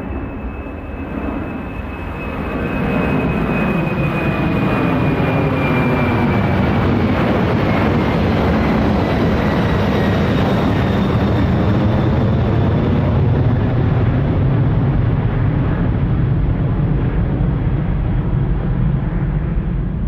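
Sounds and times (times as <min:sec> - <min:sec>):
airplane engine rushing overhead: 0:00.0 - 0:20.0.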